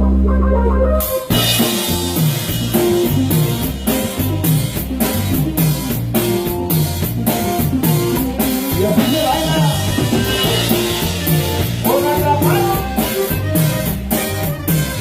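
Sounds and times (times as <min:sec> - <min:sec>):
band with drums bass and guitar: 0:00.0 - 0:15.0.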